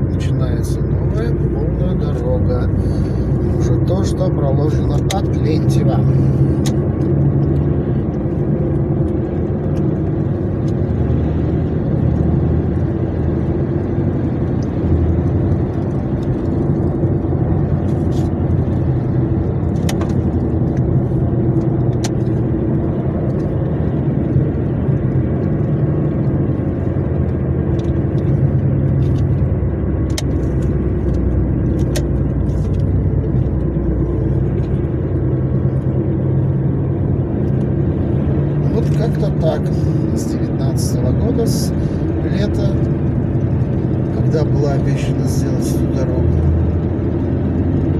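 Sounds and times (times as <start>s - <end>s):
car engine hum: 0.0s - 47.9s
tyre and road noise: 0.0s - 47.9s.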